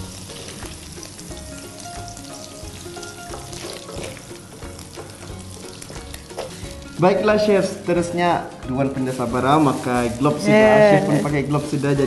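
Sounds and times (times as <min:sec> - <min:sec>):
background music: 0:00.0 - 0:12.0
oil sizzling in a pan: 0:00.0 - 0:12.0.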